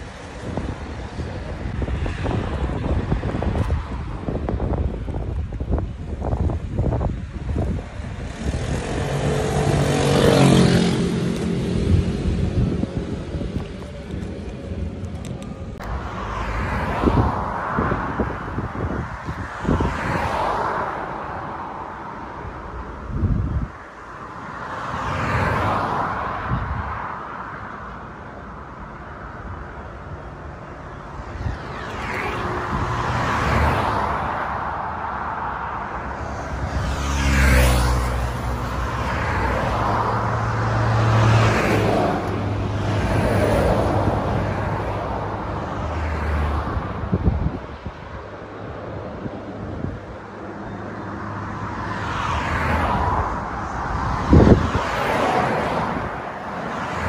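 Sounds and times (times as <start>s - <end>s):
road traffic passing: 0.0s - 57.0s
vehicle engine humming: 0.0s - 57.0s
wind buffeting microphone: 0.0s - 57.0s.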